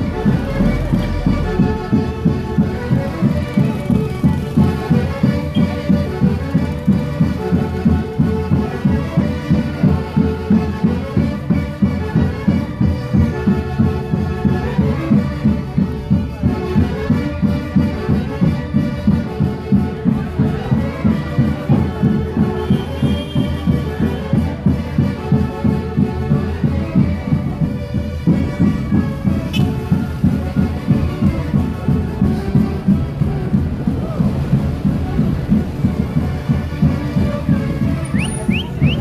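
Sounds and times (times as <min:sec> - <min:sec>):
fast steady beat: 0:00.0 - 0:14.0, 0:21.7 - 0:39.0
wind instruments playing melody: 0:00.0 - 0:39.0.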